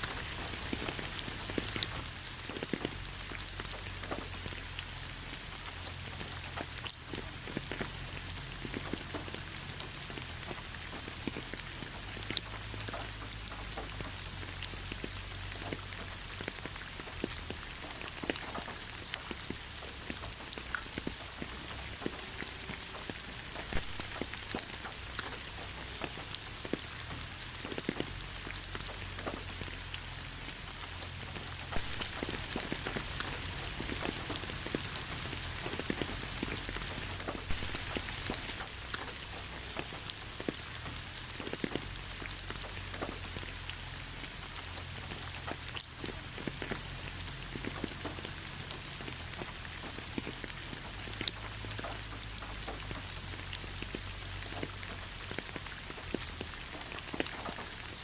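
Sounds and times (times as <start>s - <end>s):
raindrop hits: 0.0s - 58.0s
steady rain falling: 0.0s - 58.0s.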